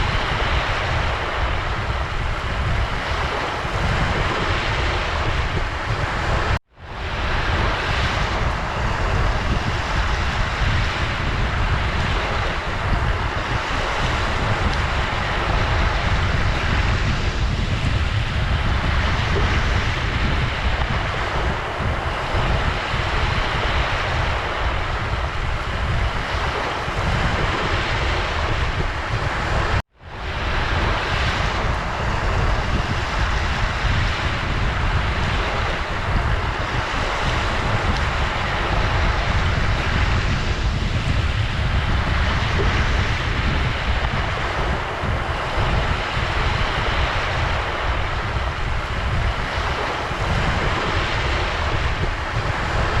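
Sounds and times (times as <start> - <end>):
ocean waves washing: 0.0 - 53.0.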